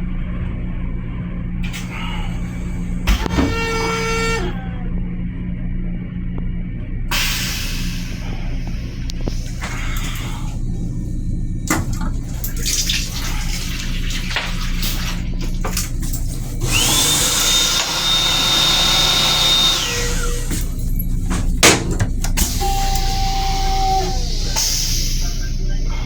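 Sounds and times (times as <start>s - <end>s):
railcar low hum: 0.0s - 26.0s
toilet flush rush with high whine: 1.6s - 4.7s, 7.1s - 26.0s.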